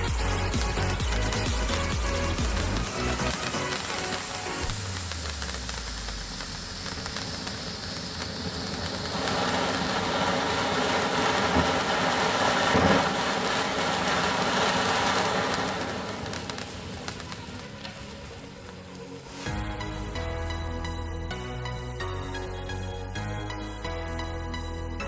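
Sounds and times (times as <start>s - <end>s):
firework fountain hissing and crackling: 0.0s - 23.9s.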